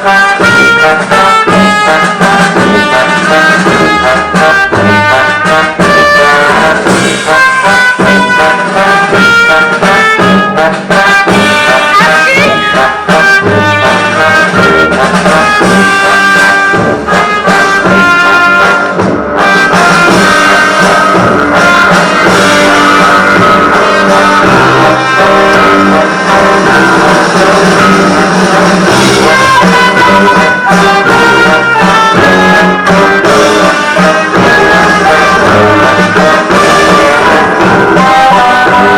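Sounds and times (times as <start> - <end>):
brass band jazz music: 0.0 - 38.9.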